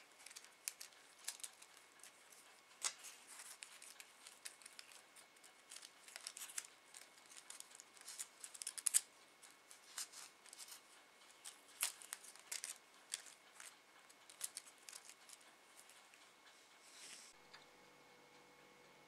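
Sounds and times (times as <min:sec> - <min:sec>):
tissue paper crinkling and rustling: 0:00.0 - 0:16.0.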